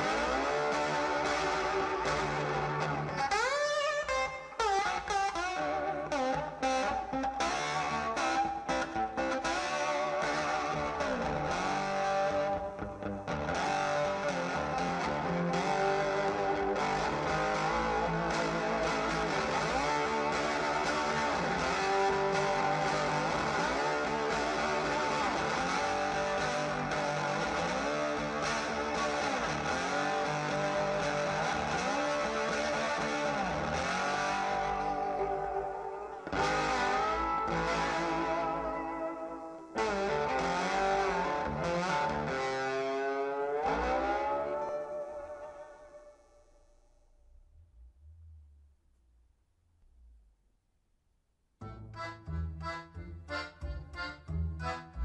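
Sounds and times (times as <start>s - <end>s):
guitar music with bass line: 0.0s - 46.2s, 51.6s - 55.0s.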